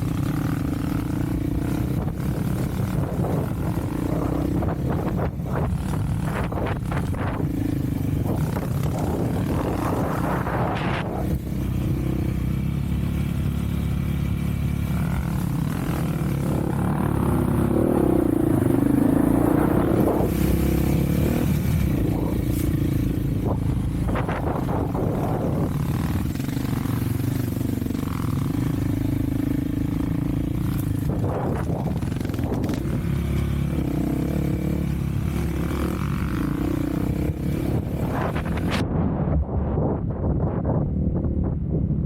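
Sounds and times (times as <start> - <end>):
off-road vehicle engine running: 0.0 - 42.0.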